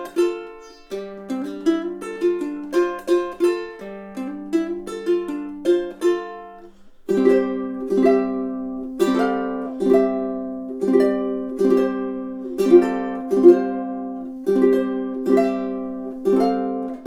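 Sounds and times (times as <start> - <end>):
ukulele chords strummed: 0.0 - 17.0
ukulele picked notes: 0.0 - 17.0.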